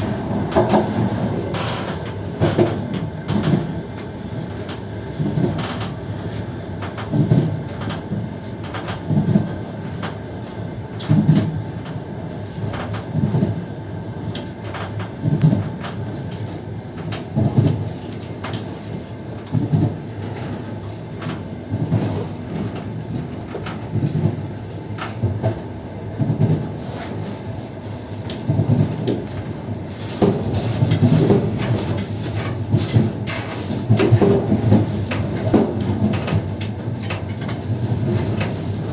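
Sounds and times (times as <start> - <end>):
train car rumble: 0.0 - 38.9.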